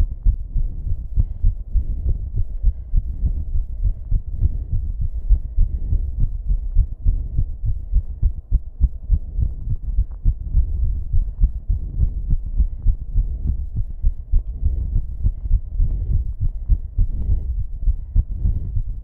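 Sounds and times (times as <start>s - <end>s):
racing heartbeat thuds: 0.0s - 19.0s.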